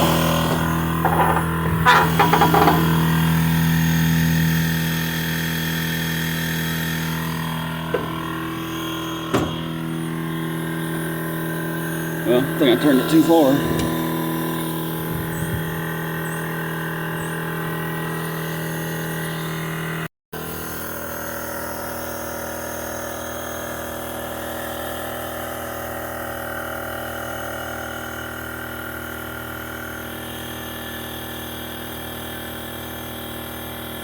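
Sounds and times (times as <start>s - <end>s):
air compressor running: 0.0s - 34.0s.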